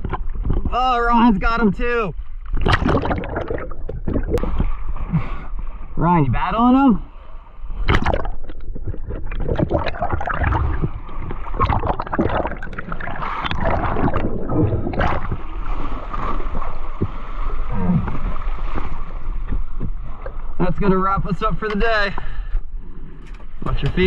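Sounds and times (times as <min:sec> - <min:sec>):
water splashing around a boat: 0:00.0 - 0:24.0.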